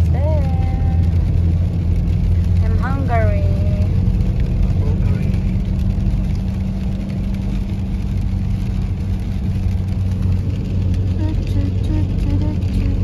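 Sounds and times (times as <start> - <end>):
car cabin engine hum: 0.0 - 13.0.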